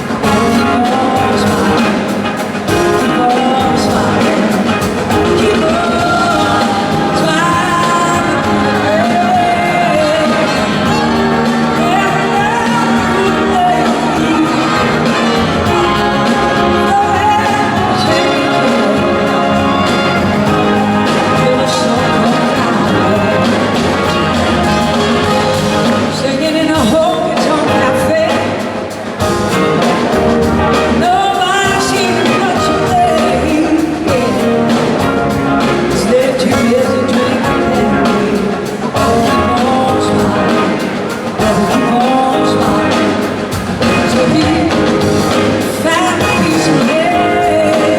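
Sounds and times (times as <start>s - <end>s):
live rock band playing: 0.0s - 47.9s
person singing: 0.0s - 47.9s.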